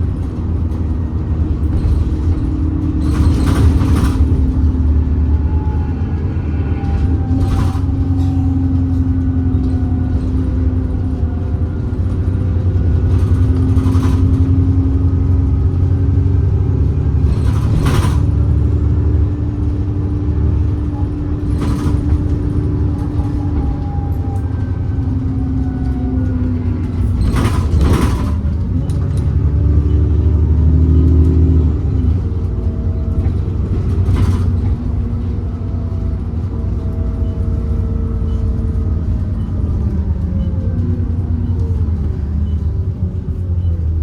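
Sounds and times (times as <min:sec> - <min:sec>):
bus engine changing gear: 0:00.0 - 0:44.0.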